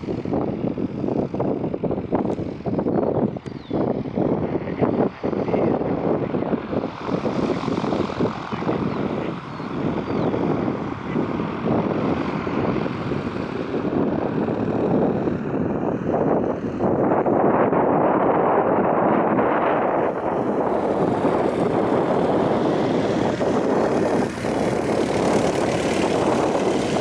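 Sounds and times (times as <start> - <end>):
propeller airplane engine drone: 0.0 - 27.0.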